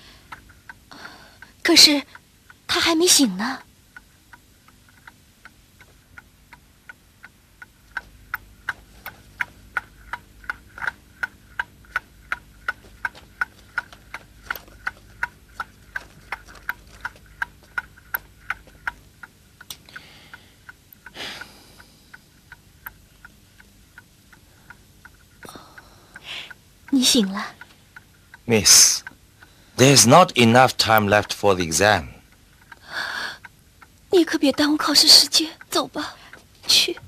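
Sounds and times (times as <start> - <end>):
clock ticking: 0.0 - 37.0.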